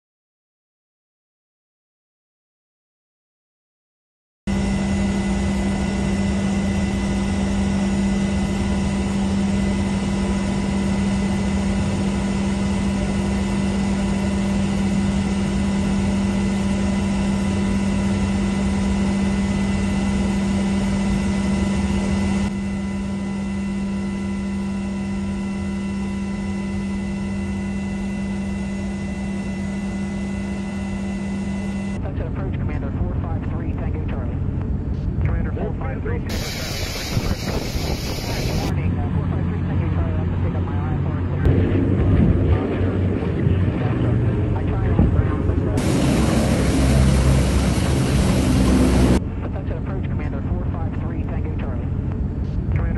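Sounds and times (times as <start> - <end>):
seaplane engines droning: 4.5 - 52.9.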